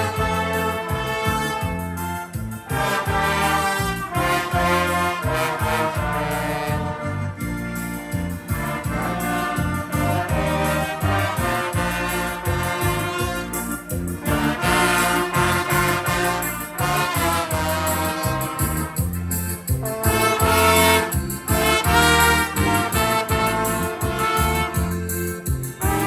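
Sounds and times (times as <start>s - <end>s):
brass band music: 0.0s - 26.0s
rhythmic bass line: 0.0s - 26.0s.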